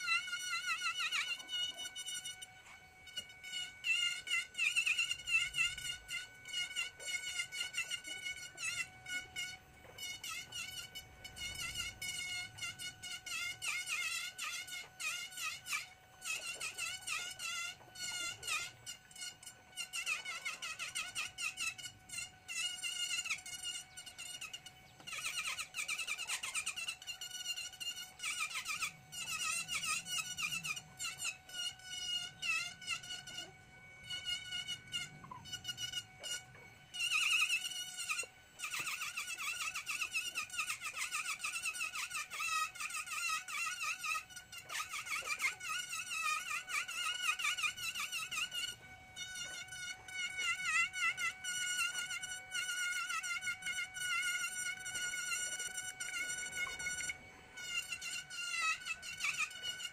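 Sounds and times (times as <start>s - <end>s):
rotary carving tool whining: 0.0s - 59.9s.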